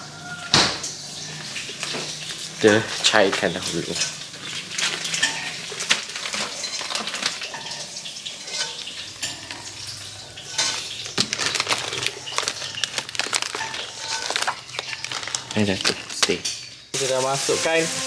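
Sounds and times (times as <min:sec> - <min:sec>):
kitchen clatter: 0:00.2 - 0:17.0
plastic bags rustling: 0:01.0 - 0:16.9.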